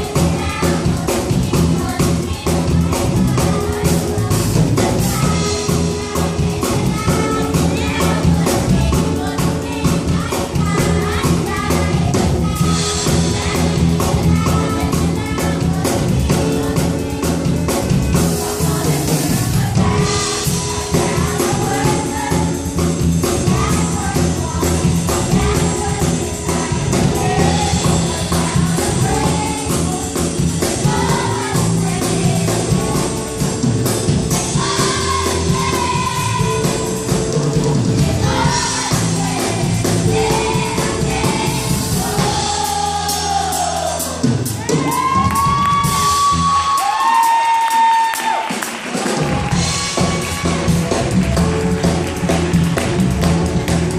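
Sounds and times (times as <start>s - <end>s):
choir singing: 0.0s - 33.5s, 34.3s - 44.7s
bass: 0.0s - 53.9s
drums: 0.0s - 53.9s.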